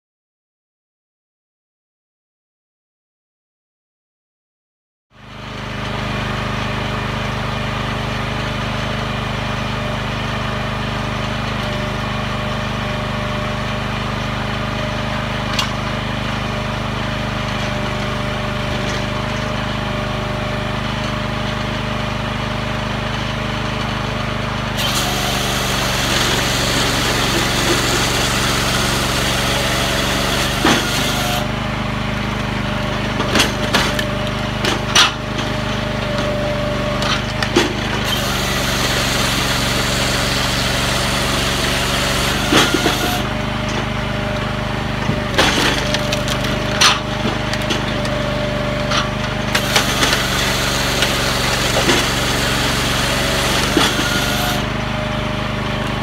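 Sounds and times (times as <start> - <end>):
engine running steadily: 5.2 - 56.0.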